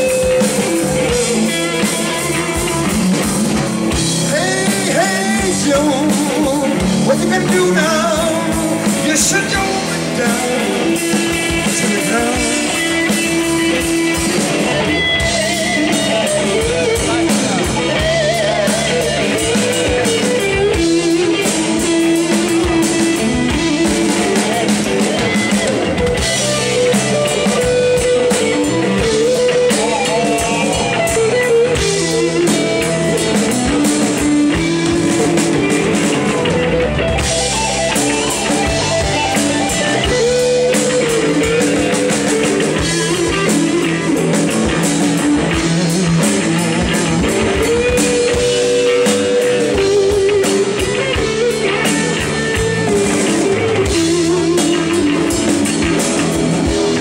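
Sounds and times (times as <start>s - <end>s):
bass guitar: 0.0s - 57.0s
drum kit: 0.0s - 57.0s
electric guitar lead: 0.0s - 57.0s.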